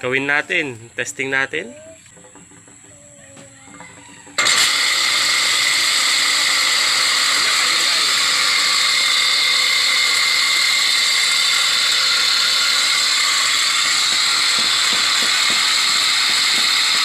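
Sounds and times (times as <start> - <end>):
water pump grinding rattle: 0.0 - 3.0, 3.7 - 17.0.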